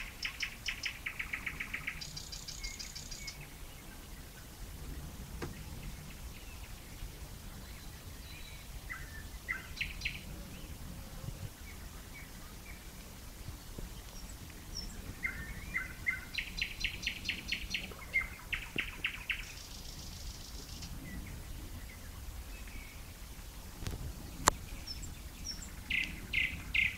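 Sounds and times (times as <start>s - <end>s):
nightingale singing: 0.0s - 4.4s, 5.4s - 10.8s, 11.5s - 26.9s
faint low background rumble: 0.0s - 26.9s.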